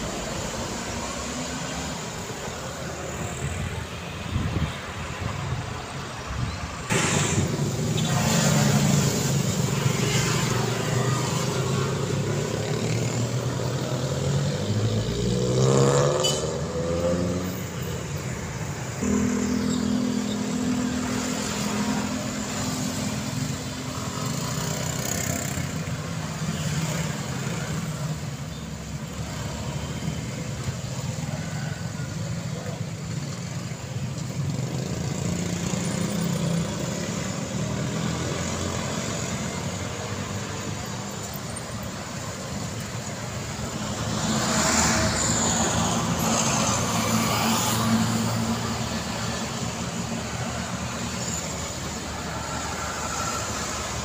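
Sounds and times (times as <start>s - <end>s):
vehicles passing: 0.0s - 54.0s.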